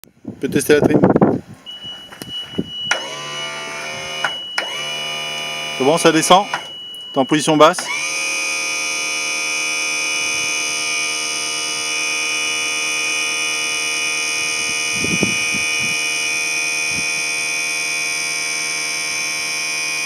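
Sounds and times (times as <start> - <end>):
pump motor buzzing whine: 1.6 - 20.0.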